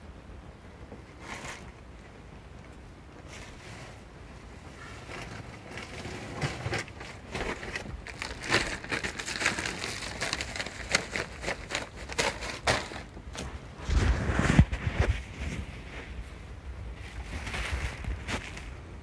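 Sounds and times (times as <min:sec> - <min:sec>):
plastic bags rustling and crinkling: 0:03.2 - 0:19.0.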